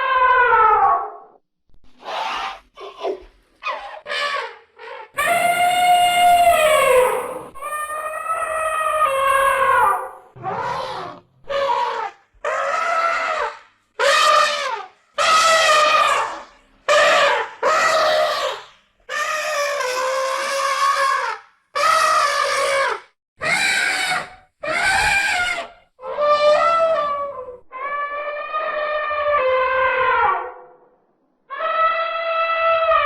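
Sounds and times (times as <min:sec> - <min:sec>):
elephant trumpeting: 0:02.0 - 0:30.6.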